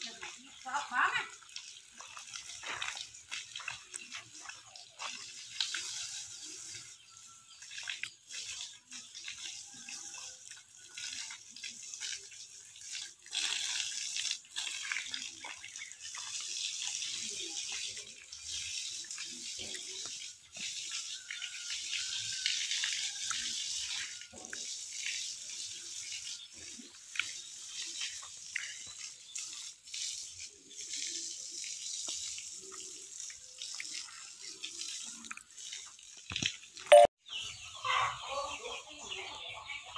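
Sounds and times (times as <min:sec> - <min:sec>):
water spraying from hose: 0:00.0 - 0:37.0
water splashing and pattering: 0:00.0 - 0:39.9.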